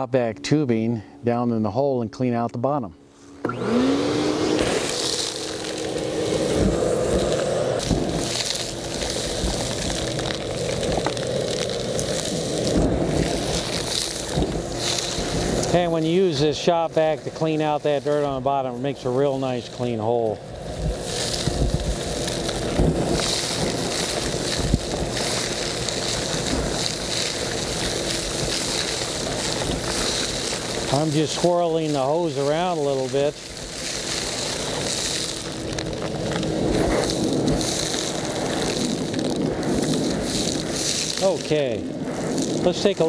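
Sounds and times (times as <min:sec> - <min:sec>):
shop vacuum running: 0:00.0 - 0:43.0
grit clicking in hose: 0:04.6 - 0:43.0.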